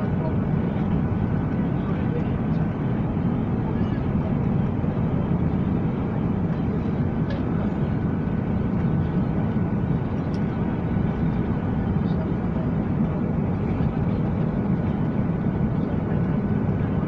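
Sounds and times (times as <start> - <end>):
airliner engines roaring: 0.0 - 17.0.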